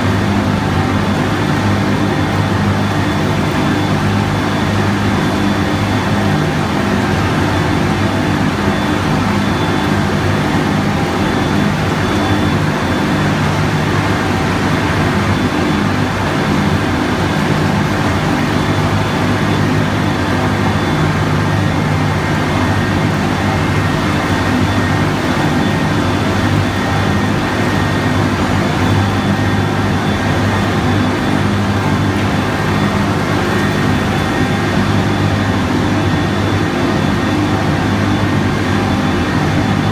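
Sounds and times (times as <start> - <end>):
baler machine drone: 0.0 - 39.9.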